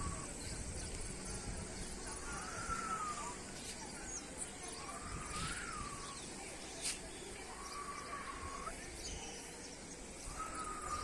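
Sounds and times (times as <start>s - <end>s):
faint wind: 0.0s - 11.0s
whistled bird calls: 2.0s - 11.0s.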